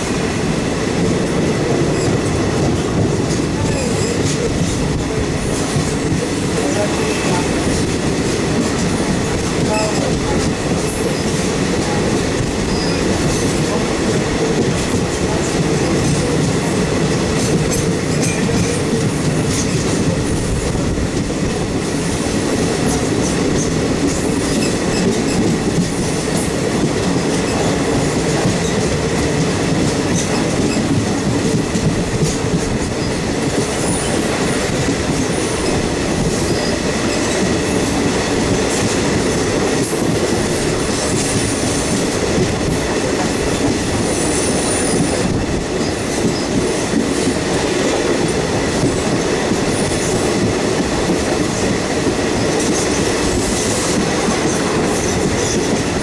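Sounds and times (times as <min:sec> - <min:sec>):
train wheels rattling on rails: 0:00.0 - 0:56.0.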